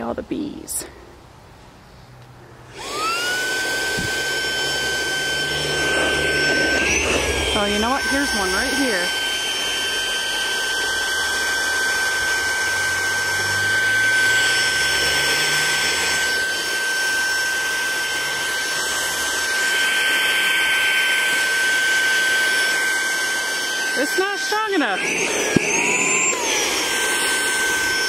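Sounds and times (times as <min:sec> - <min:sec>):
handheld vacuum cleaner running: 0:02.7 - 0:28.0.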